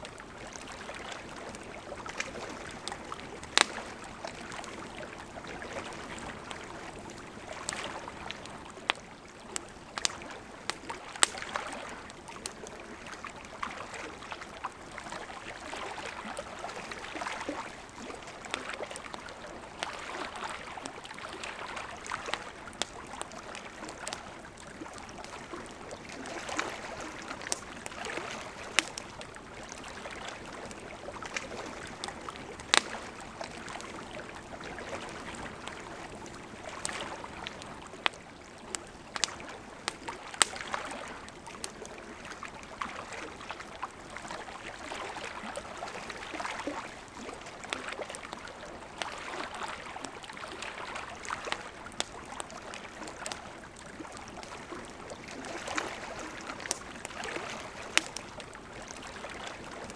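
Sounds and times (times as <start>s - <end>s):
campfire wood popping: 0.1s - 13.2s, 16.3s - 42.0s, 50.0s - 59.9s.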